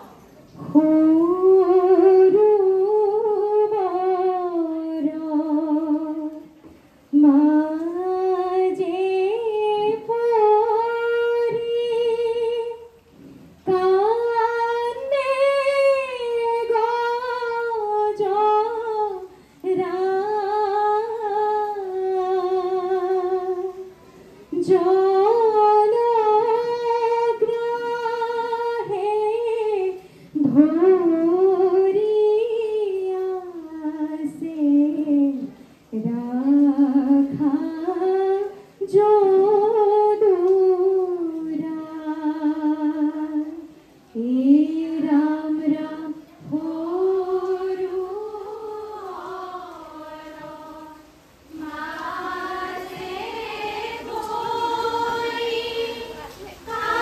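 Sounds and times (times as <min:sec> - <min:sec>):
women singing hymns together: 0:00.6 - 0:06.4, 0:07.1 - 0:13.0, 0:13.7 - 0:23.9, 0:24.5 - 0:57.0.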